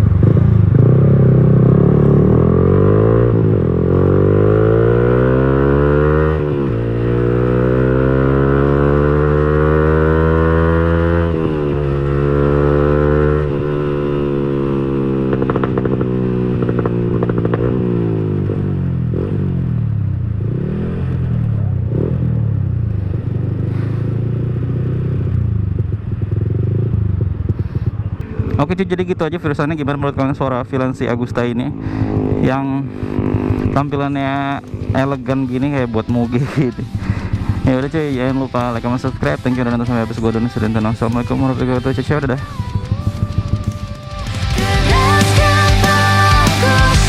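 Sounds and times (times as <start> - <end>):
exhaust crackles: 0.0 - 47.0
motorcycle engine revving: 0.0 - 47.0.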